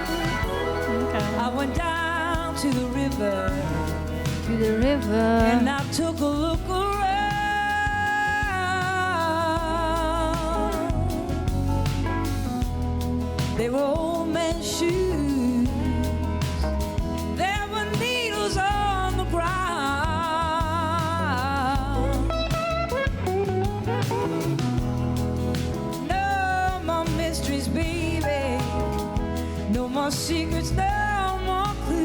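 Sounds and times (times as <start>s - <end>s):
live blues ballad band: 0.0s - 32.0s.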